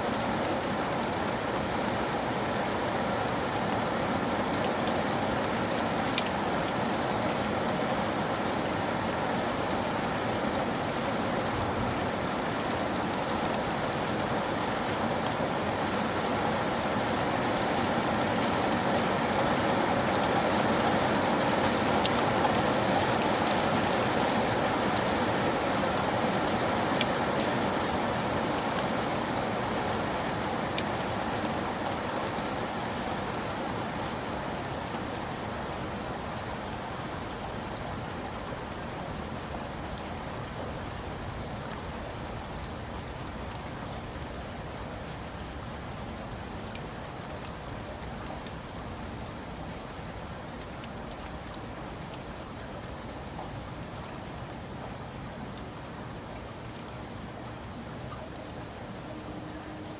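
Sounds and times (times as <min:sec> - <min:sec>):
raindrops ticking on a surface: 0:00.0 - 0:59.9
steady rain hiss: 0:00.0 - 0:59.9.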